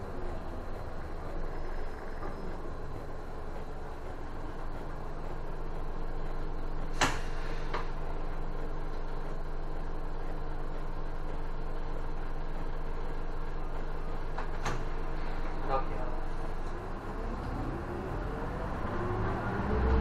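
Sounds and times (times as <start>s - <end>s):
bus engine idling: 0.0s - 20.0s.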